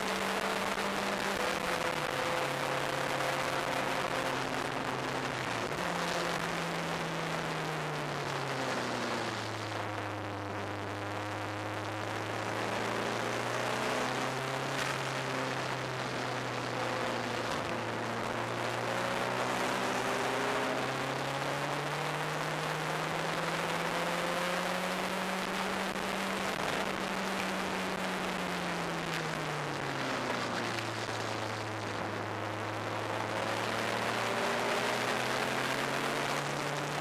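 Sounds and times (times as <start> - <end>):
race car engine accelerating: 0.0 - 9.8, 11.7 - 37.0.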